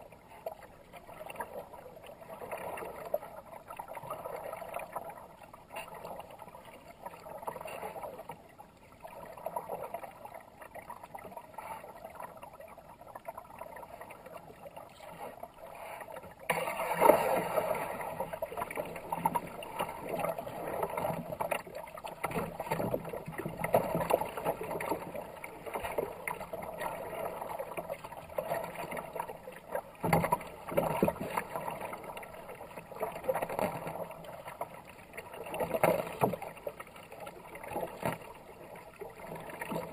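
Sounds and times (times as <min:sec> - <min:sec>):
kayak paddle splashing: 0:00.0 - 0:39.9
water rushing along hull: 0:00.0 - 0:39.9.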